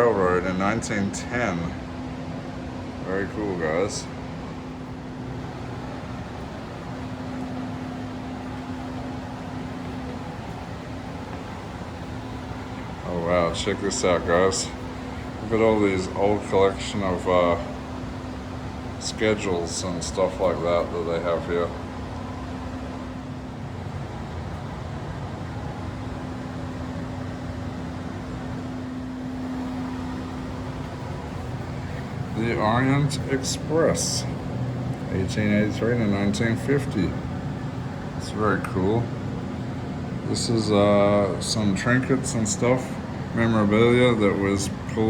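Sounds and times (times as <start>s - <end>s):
air-conditioning hum: 0.0s - 45.0s.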